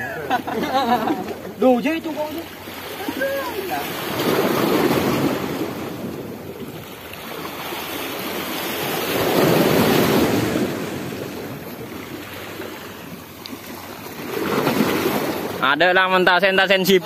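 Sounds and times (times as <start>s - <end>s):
sea waves washing against rocks: 1.6s - 16.0s.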